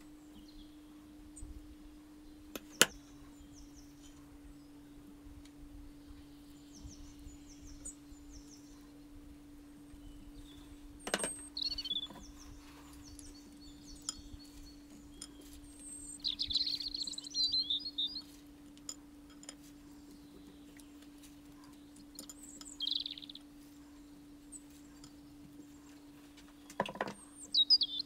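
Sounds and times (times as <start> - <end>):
steady low hum: 0.0 - 28.0
small bird chirping: 1.4 - 5.1, 5.7 - 18.4, 19.6 - 28.0.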